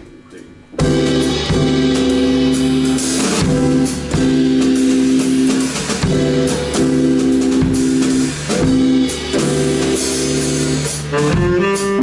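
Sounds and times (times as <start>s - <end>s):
drum kit: 0.0s - 12.0s
bass guitar: 0.8s - 12.0s
guitar chords: 0.8s - 12.0s.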